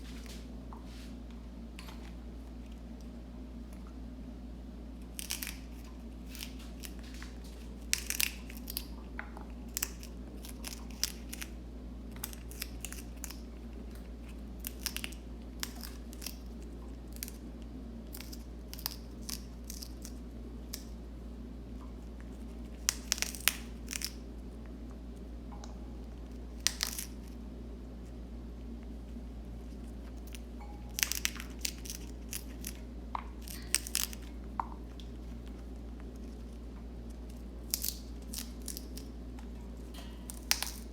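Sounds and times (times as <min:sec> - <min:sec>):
steady low hum: 0:00.0 - 0:40.9
parrot crunching cabbage leaf: 0:04.9 - 0:40.9.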